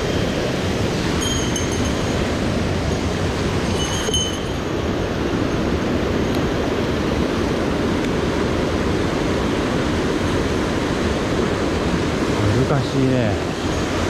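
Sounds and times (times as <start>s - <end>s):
water rushing over boulders: 0.0s - 14.0s.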